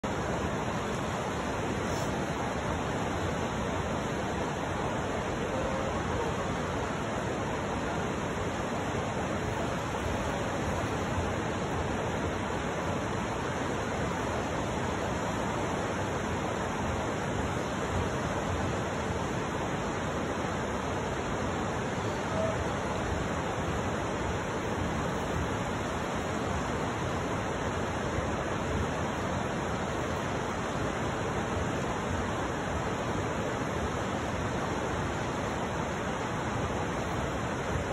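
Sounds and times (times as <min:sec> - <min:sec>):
river water rushing: 0:00.0 - 0:37.9.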